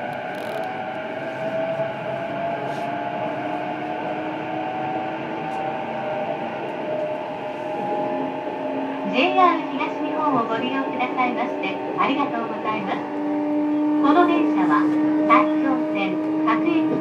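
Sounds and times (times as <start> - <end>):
traction motor whine: 0.0 - 17.0
wheel and rail rumble: 0.0 - 17.0.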